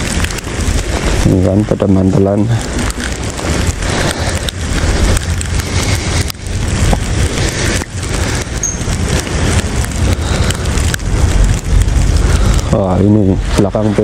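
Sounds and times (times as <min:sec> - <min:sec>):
bicycle tyres on snowy road: 0:00.0 - 0:14.0.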